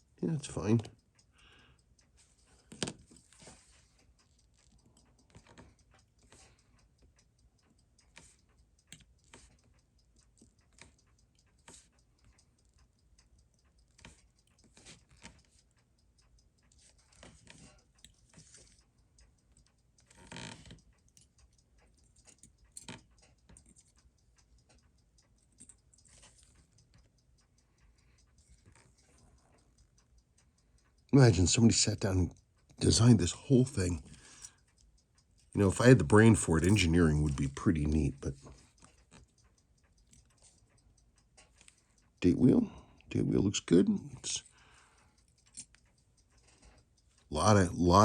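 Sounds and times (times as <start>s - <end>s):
tweezers clicking on watch parts: 0.0s - 31.1s, 32.3s - 48.0s.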